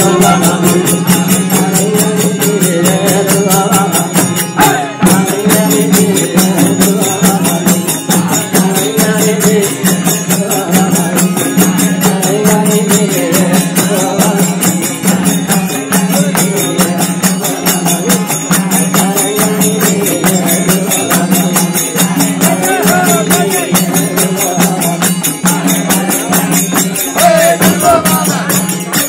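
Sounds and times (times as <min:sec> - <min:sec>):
metallic jingling percussion: 0:00.0 - 0:29.0
voices singing: 0:00.0 - 0:29.0.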